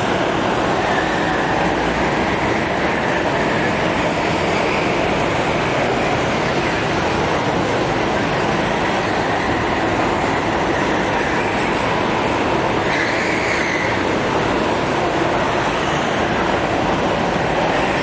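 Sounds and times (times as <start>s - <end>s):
go-kart engines droning: 0.0s - 18.0s
high engine whine: 0.0s - 18.0s.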